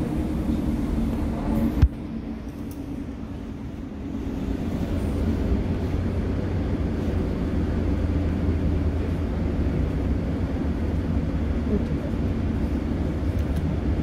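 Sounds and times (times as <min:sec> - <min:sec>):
train rumble from inside carriage: 0:00.0 - 0:14.0.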